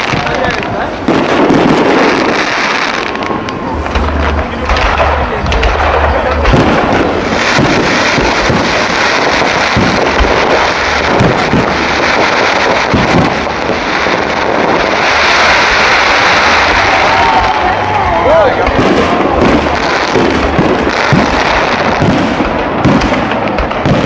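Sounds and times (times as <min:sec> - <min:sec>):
dense firework crackle: 0:00.0 - 0:24.0
firework shells bursting: 0:00.0 - 0:24.0
low firework booms: 0:00.0 - 0:24.0.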